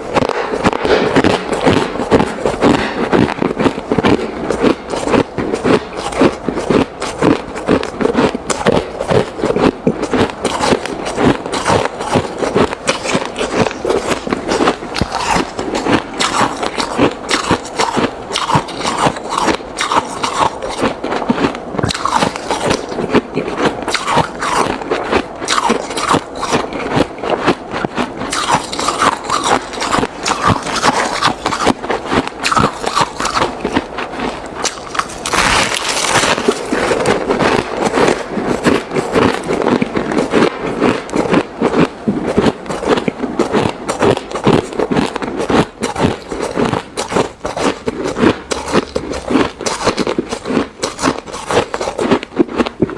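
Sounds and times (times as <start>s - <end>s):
ice being chewed: 0.0s - 52.9s.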